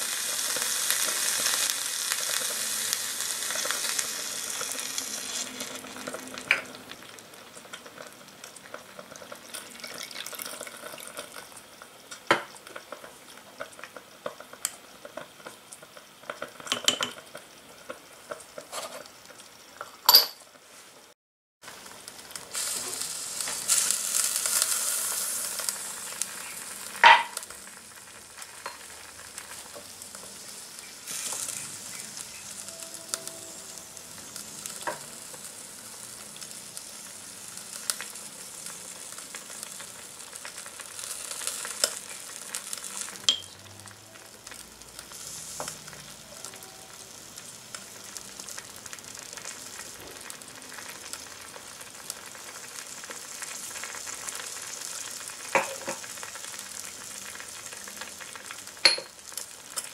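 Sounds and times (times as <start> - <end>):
soup simmering with sizzling hiss: 0.0 - 59.9.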